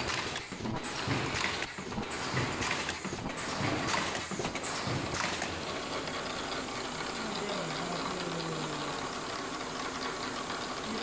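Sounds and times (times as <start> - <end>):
welding machine clatter: 0.0 - 9.0.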